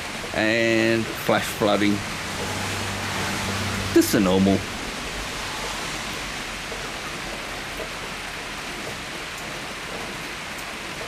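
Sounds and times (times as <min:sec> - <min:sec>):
heavy rain pattering: 0:00.0 - 0:11.0.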